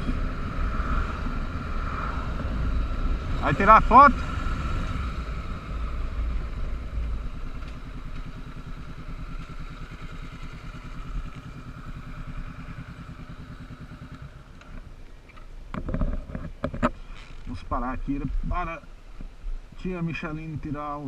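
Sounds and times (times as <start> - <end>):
motorcycle engine at low revs: 0.0 - 19.6.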